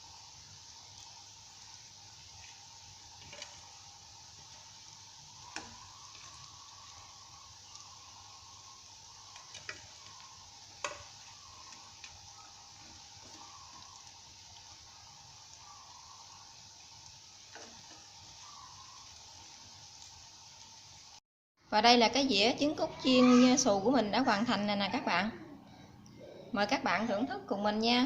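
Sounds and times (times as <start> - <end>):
eggs sizzling in hot oil: 0.0 - 21.2, 21.8 - 25.2, 26.6 - 28.0.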